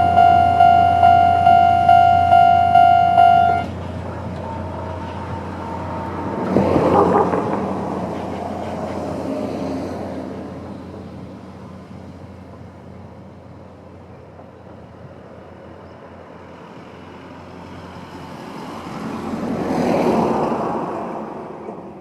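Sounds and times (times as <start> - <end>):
road vehicle passing: 0.0 - 13.6, 16.1 - 22.0.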